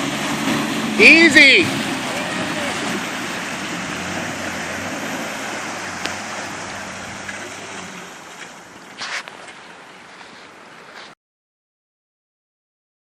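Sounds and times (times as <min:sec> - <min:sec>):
flooded river rushing: 0:00.0 - 0:11.2
low vehicle engine hum: 0:00.0 - 0:11.2.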